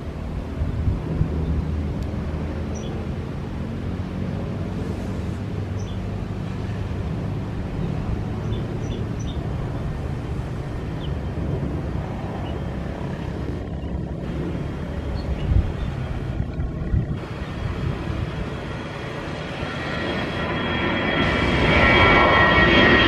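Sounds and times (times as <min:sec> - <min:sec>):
distant jet engines rumbling: 0:00.0 - 0:23.0.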